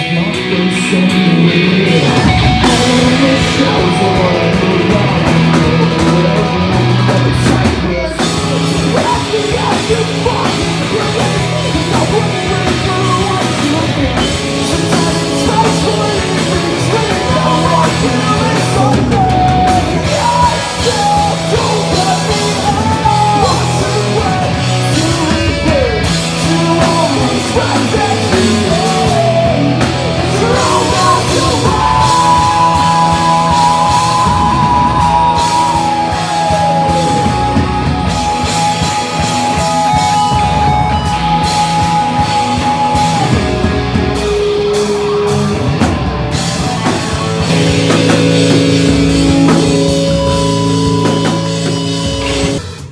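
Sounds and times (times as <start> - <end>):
distorted electric guitars: 0.0 - 52.9
drums: 0.0 - 52.9
person singing: 0.0 - 52.9.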